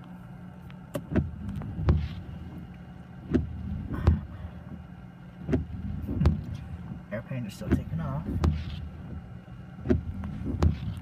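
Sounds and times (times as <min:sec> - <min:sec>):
car engine idling: 0:00.0 - 0:11.0
windshield wipers sweeping: 0:00.7 - 0:11.0
wiper thumps: 0:00.9 - 0:11.0.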